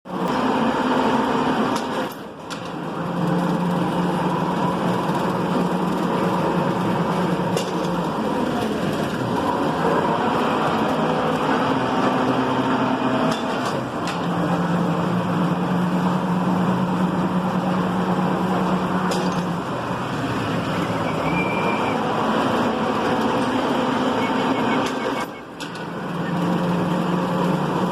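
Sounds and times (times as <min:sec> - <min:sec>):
machine tools running: 0:00.1 - 0:27.9.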